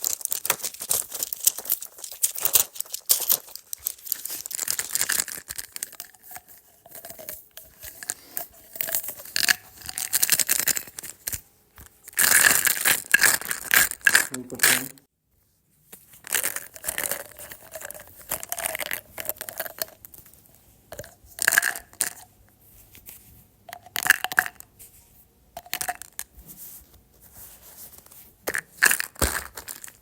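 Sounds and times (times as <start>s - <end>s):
crinkling as something is handled: 0.0s - 30.0s.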